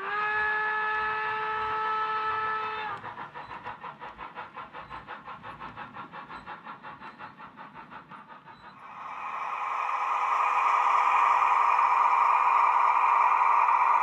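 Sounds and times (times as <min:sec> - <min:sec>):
model train clicking on rails: 0:00.0 - 0:14.0.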